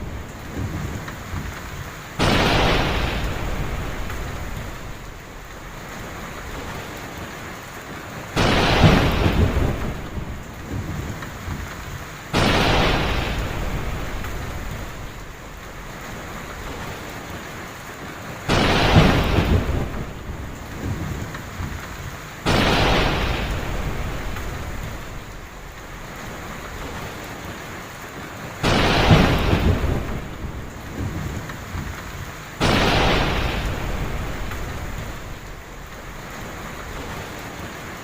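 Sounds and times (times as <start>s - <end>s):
thunderclaps rumbling: 0.0s - 7.2s, 7.9s - 17.1s, 18.3s - 38.0s
heavy rain falling: 0.0s - 38.0s.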